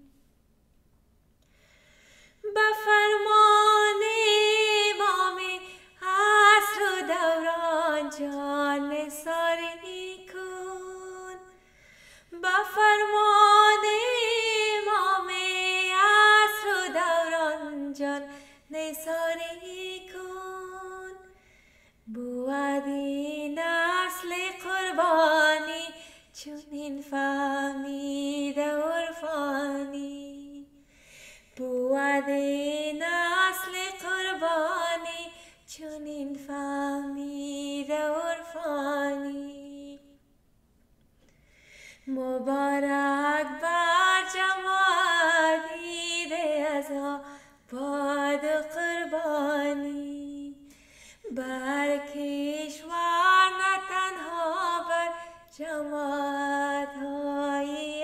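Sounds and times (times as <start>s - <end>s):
woman singing unaccompanied: 2.4s - 11.6s, 12.3s - 21.3s, 22.1s - 30.7s, 31.6s - 40.2s, 42.1s - 58.0s.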